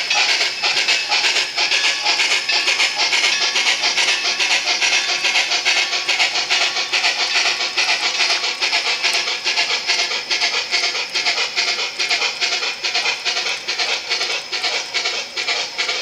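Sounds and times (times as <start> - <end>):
model train wheels clattering: 0.0 - 16.0.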